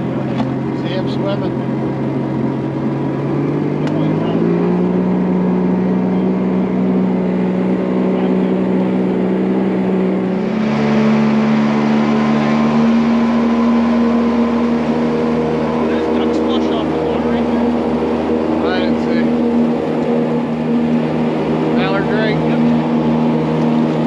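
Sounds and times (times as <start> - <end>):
boat motor running at speed: 0.0 - 24.0.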